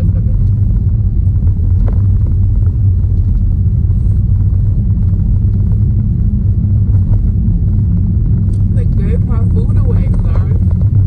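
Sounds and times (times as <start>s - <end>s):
low rumble with deep hum: 0.0s - 11.0s.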